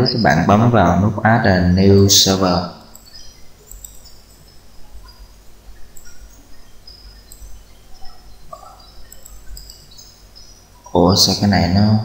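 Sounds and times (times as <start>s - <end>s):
steady low hum: 0.0s - 12.0s
faint bird chirps: 1.8s - 12.0s.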